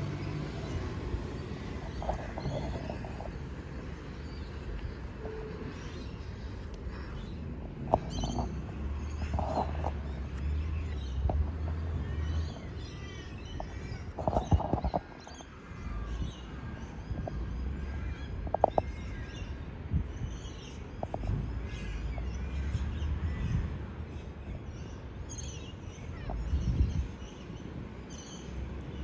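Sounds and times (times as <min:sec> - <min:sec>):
birds chirping: 0:00.0 - 0:23.6.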